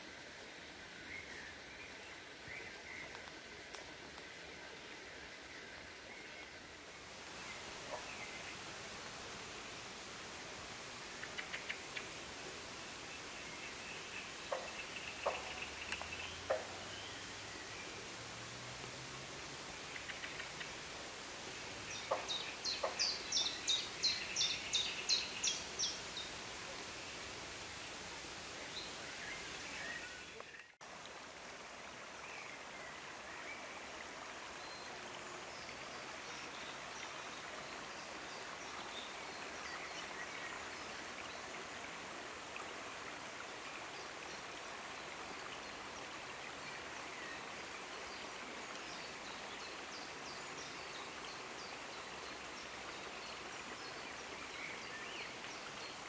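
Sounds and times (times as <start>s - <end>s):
outdoor hiss: 0.0s - 56.0s.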